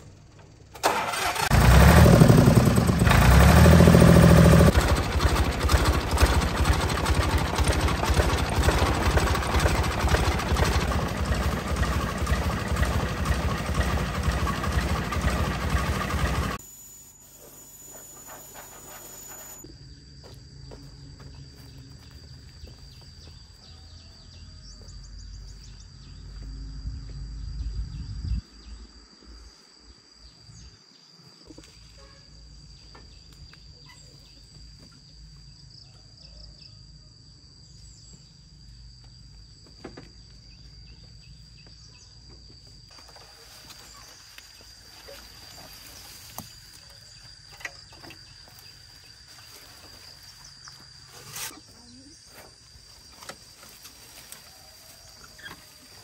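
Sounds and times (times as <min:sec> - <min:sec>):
high insect drone: 0:03.6 - 0:56.0.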